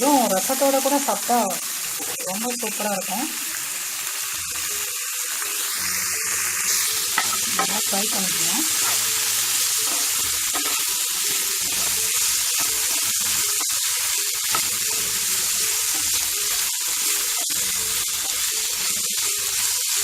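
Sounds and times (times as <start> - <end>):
liver sizzling in hot oil: 0.0 - 20.0.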